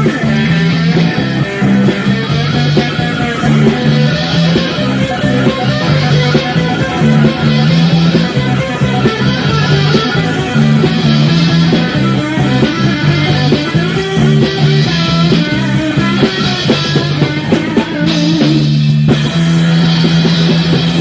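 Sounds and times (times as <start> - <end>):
bass notes: 0.0 - 21.0
drums: 0.0 - 21.0
electric guitar: 0.0 - 21.0.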